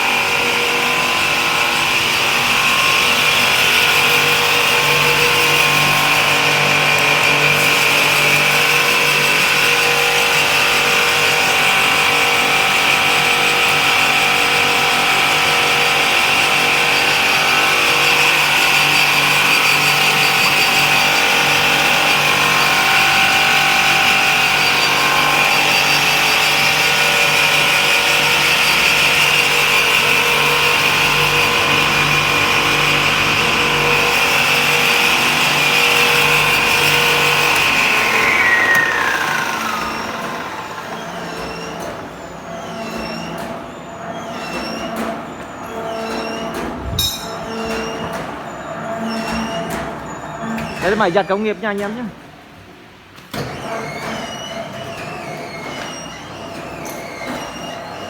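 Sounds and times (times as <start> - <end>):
stone-cutting saw whining: 0.0 - 52.1.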